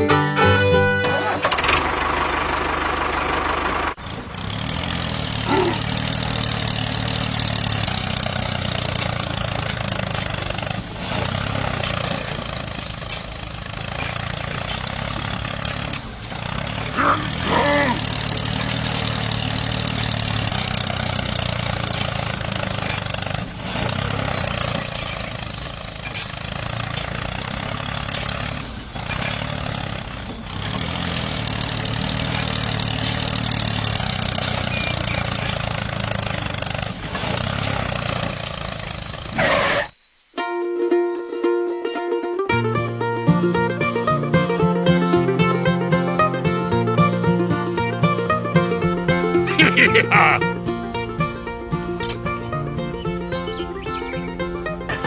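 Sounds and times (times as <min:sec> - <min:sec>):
tractor motor running: 0:00.0 - 0:39.5, 0:42.4 - 0:55.0.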